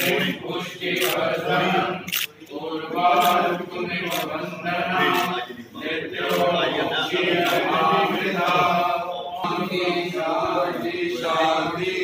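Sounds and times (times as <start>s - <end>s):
men chanting a prayer: 0.0s - 12.0s.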